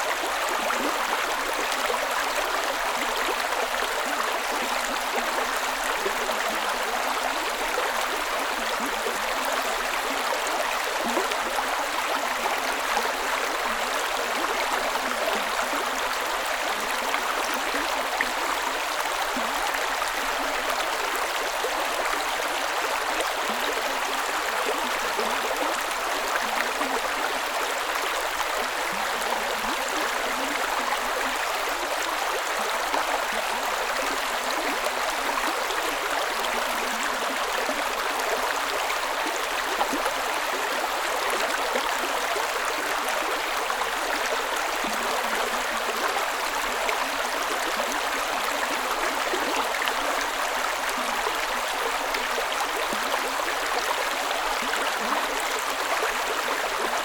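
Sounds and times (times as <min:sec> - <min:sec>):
creek water running over rocks: 0:00.0 - 0:57.0.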